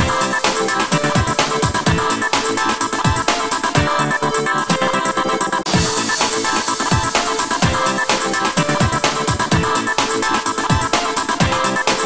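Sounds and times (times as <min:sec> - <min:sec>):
pounding kick drum beat: 0:00.0 - 0:04.1, 0:05.7 - 0:12.0.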